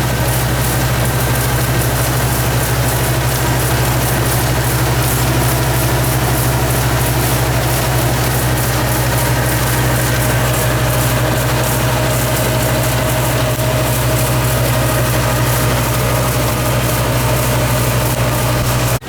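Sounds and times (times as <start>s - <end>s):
farm machine engine running: 0.0s - 19.0s.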